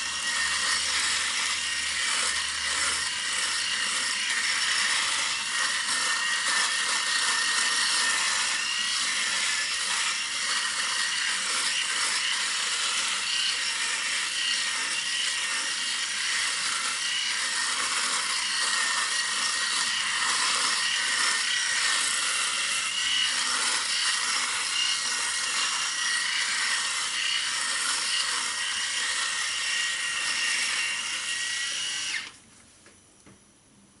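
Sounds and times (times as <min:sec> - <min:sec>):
electric shaver buzzing: 0:00.0 - 0:32.4.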